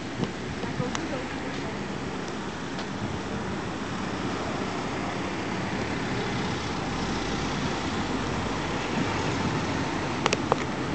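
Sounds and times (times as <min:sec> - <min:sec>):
road noise: 0:00.0 - 0:10.9
wind on microphone: 0:00.0 - 0:10.9.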